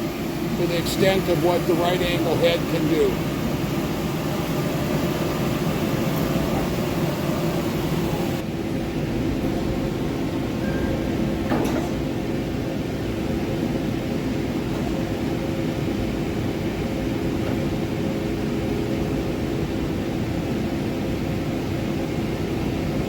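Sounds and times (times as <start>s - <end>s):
milling machine hum: 0.0s - 23.0s.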